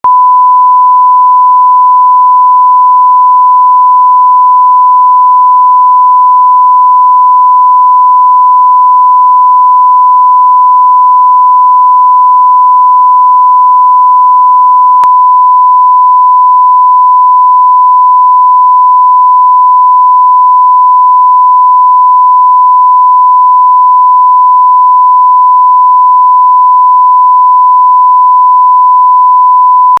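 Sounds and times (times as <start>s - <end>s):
censorship bleep tone: 0.0s - 30.0s.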